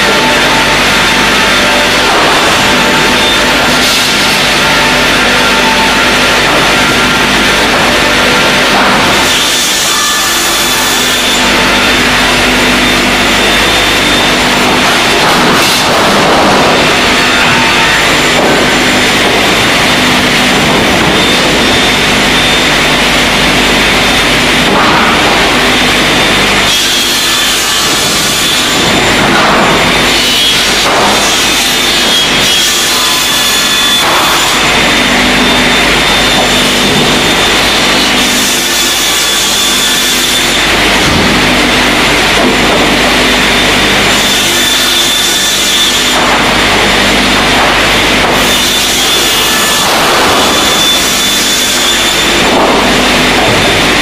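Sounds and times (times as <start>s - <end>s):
board trimmer and conveyors running: 0.0s - 54.0s
saws cutting boards: 0.0s - 54.0s.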